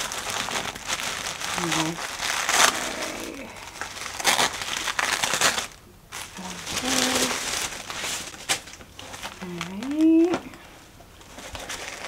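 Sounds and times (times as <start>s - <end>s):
paper bag and tissue rustling: 0.0s - 12.0s.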